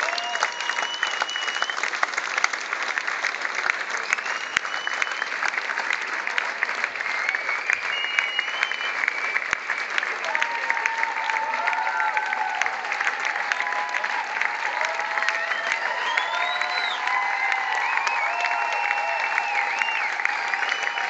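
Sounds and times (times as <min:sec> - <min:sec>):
audience whistles: 0:00.0 - 0:02.1, 0:04.0 - 0:06.0, 0:06.6 - 0:21.0
crowd applauding: 0:00.0 - 0:21.0.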